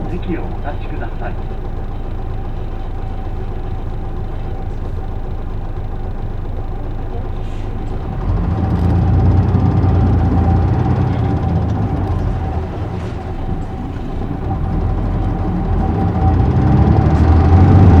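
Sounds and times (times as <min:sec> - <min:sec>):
bus diesel engine droning: 0:00.0 - 0:18.0
road noise: 0:00.0 - 0:18.0.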